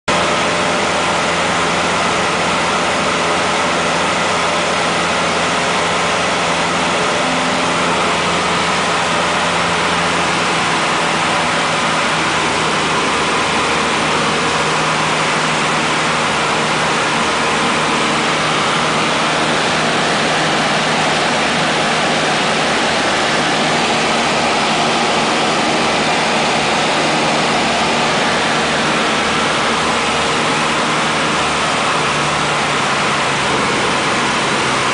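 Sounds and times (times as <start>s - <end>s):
airplane engine droning in flight: 0.1s - 34.9s
airflow rushing: 5.7s - 34.9s.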